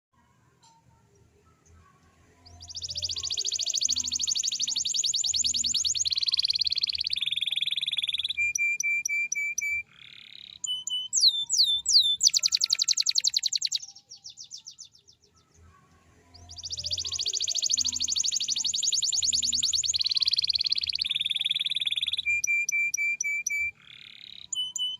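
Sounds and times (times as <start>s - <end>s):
canary singing trills: 0.6s - 24.9s.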